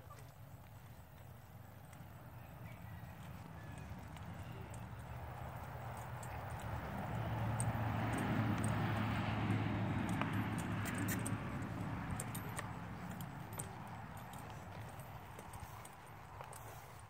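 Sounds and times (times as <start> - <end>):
horse hooves clip-clopping on dirt: 0.0 - 17.0.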